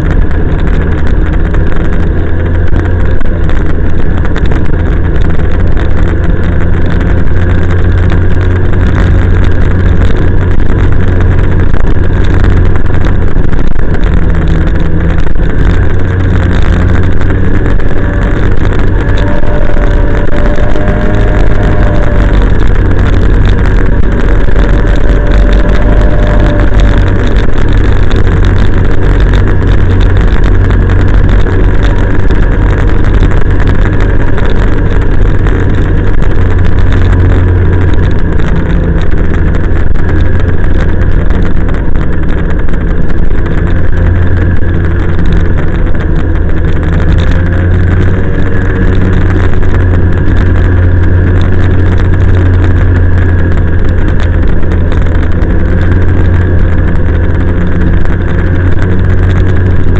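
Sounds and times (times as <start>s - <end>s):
snowmobile engine droning: 0.0s - 59.9s.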